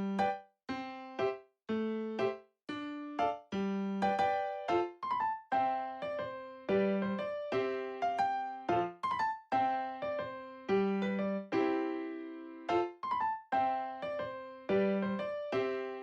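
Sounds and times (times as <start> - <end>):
light piano tune: 0.0 - 16.0.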